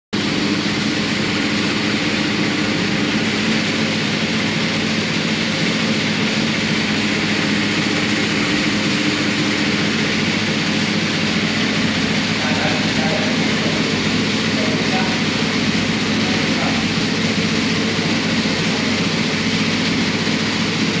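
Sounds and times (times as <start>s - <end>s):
braiding machine whirring: 0.2s - 21.0s.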